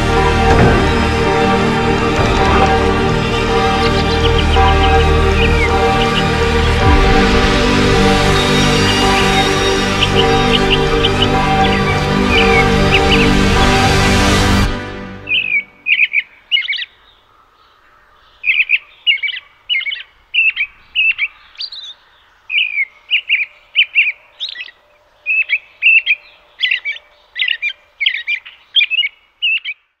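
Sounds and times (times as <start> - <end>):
songbird chirping: 0.0 - 30.0.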